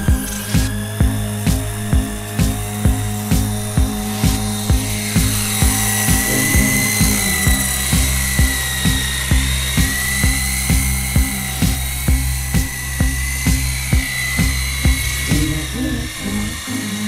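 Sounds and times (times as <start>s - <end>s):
high steady whine: 0.0s - 17.0s
music with beat and deep bass: 0.0s - 17.0s.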